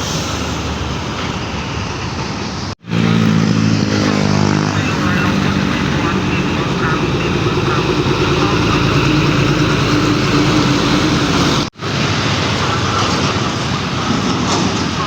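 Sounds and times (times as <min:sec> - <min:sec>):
dense rushing noise: 0:00.0 - 0:15.0
truck diesel engine running: 0:00.0 - 0:15.0.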